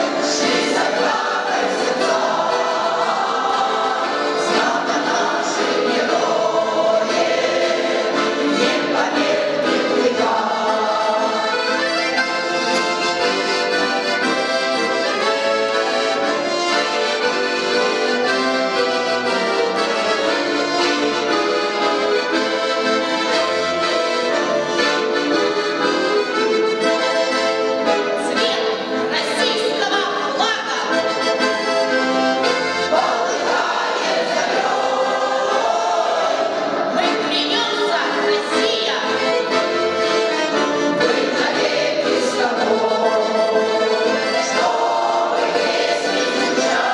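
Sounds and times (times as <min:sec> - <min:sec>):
choir singing: 0:00.0 - 0:26.4, 0:27.1 - 0:46.9
accordion playing a tune: 0:00.0 - 0:46.9.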